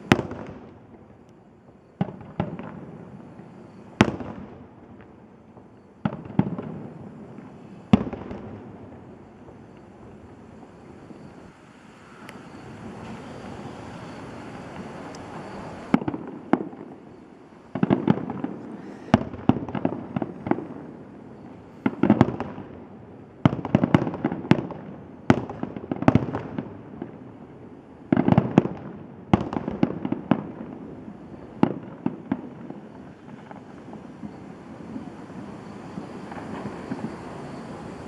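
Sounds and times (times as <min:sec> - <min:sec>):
fireworks bursting with bangs: 0:00.0 - 0:38.0.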